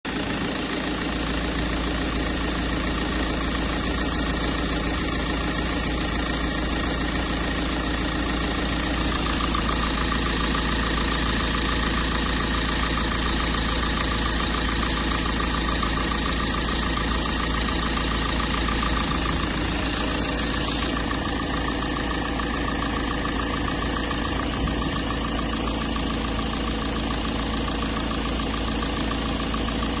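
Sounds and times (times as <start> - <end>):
engine whine: 0.1 - 30.0
van engine idling: 0.1 - 30.0.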